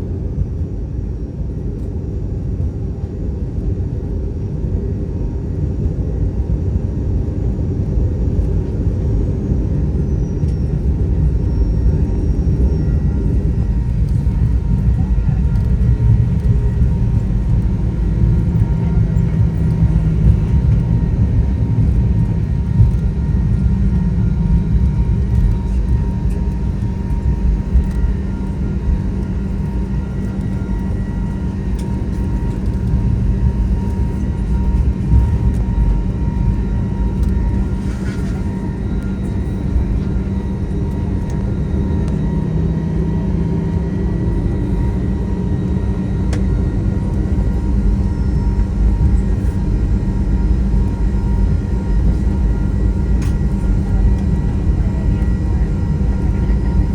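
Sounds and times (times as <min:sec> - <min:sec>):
aircraft engine rumble: 0:00.0 - 0:56.9
thin steady whine: 0:08.9 - 0:56.9.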